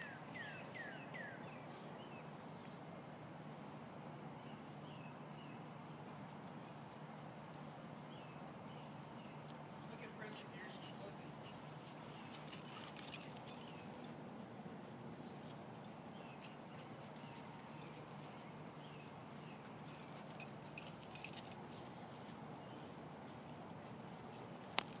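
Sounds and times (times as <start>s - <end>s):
dog collar tags jingling: 0.0s - 1.8s, 5.4s - 25.0s.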